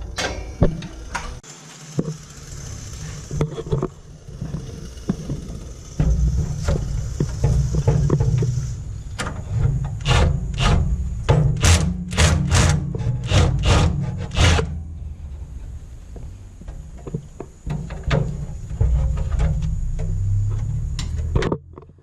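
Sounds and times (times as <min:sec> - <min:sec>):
sharp metallic clicks and knocks: 0:00.0 - 0:01.4, 0:03.3 - 0:22.0.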